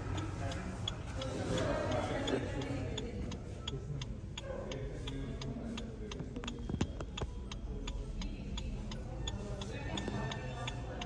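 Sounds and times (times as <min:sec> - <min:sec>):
indicator relay ticking: 0:00.0 - 0:11.0
low background murmur: 0:00.0 - 0:11.0.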